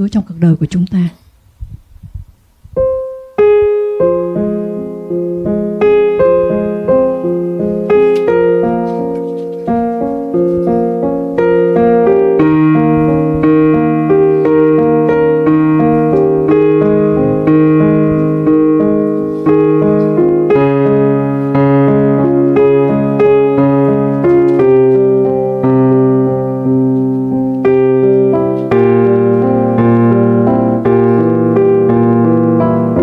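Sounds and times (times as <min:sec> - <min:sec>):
solo piano hymn: 0:01.6 - 0:33.0.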